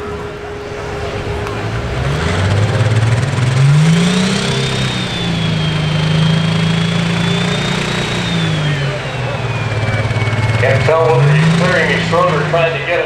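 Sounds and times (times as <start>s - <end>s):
tractor engine revving: 0.0s - 13.0s
turbocharger whistle: 0.0s - 13.0s.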